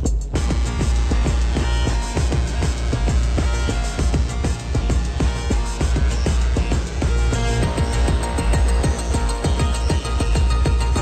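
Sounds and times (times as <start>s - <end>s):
background music with heavy bass: 0.0s - 11.0s.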